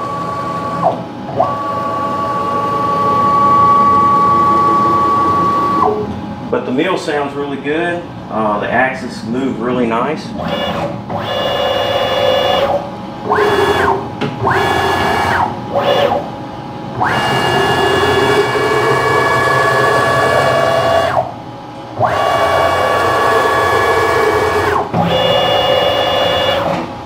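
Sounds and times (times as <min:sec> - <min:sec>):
stepper motor whine: 0:00.0 - 0:06.2, 0:10.4 - 0:21.4, 0:22.0 - 0:26.8.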